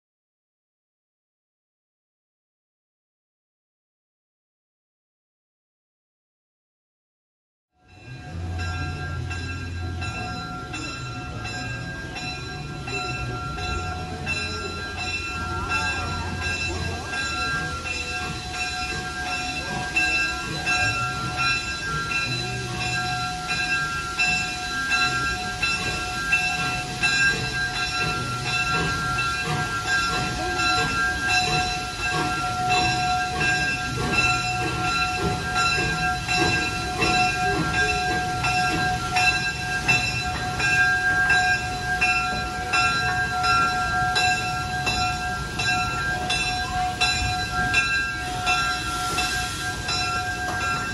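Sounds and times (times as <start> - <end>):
steam engine exhaust chuffs: 8.0 - 50.9.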